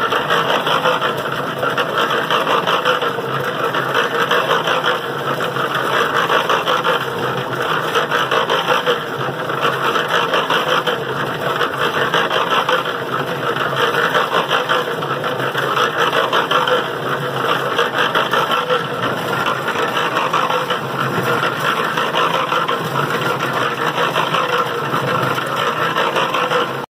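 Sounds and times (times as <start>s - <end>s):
carrots and water tumbling in drum: 0.0s - 26.9s
motor and gear hum: 0.0s - 26.9s.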